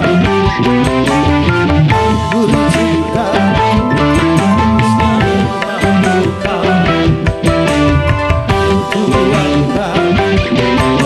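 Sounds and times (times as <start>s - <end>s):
wavering melody line: 0.0s - 10.5s
electric guitars: 0.0s - 11.0s.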